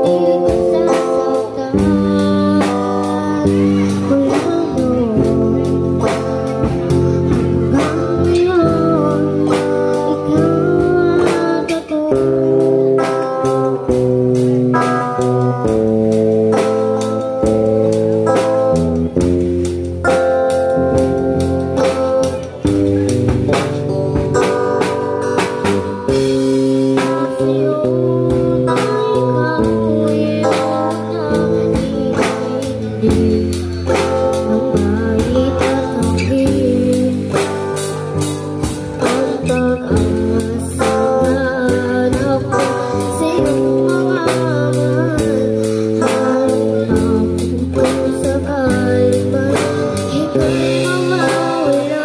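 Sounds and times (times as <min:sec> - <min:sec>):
drum and cymbal hits: 0:00.0 - 0:51.9
girl singing into microphone: 0:00.0 - 0:52.0.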